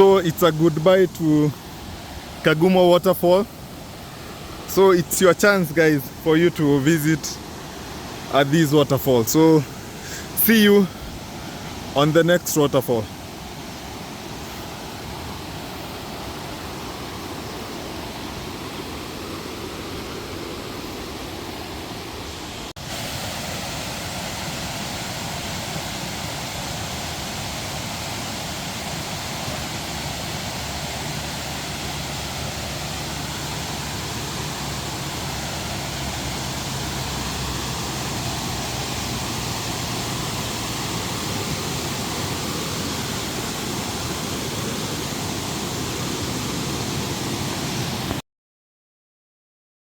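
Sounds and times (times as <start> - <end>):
waterfall rushing: 0.0 - 48.2.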